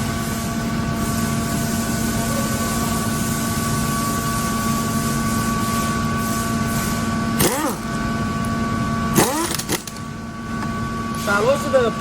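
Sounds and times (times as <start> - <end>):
machinery humming with whine: 0.0 - 12.0.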